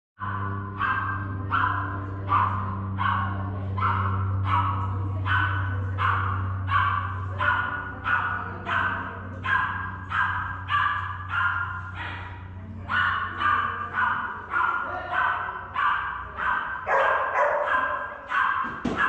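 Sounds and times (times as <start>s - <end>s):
dog barking: 0.2s - 19.0s
faint low hum: 0.2s - 19.0s.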